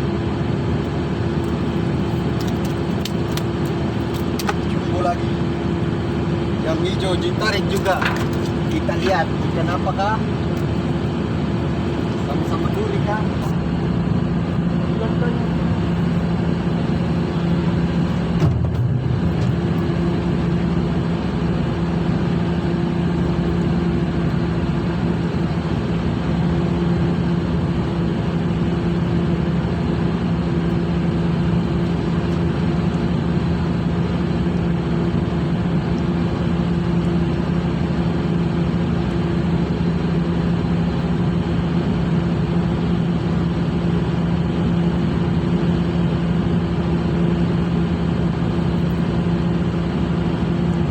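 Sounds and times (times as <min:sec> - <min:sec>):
ship engine drone: 0:00.0 - 0:50.9.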